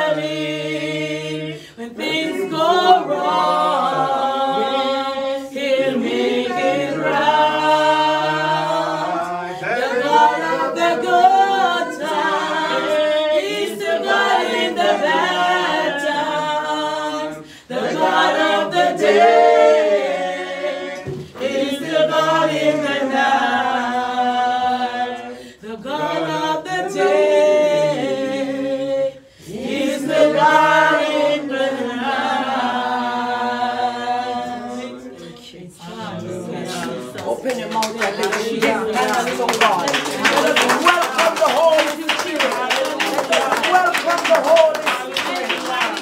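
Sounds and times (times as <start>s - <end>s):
a cappella gospel singing: 0.0s - 46.0s.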